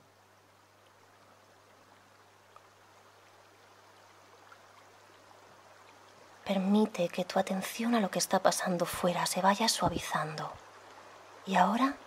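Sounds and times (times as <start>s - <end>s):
low steady hum: 0.0s - 12.0s
stream running over stones: 0.0s - 12.0s.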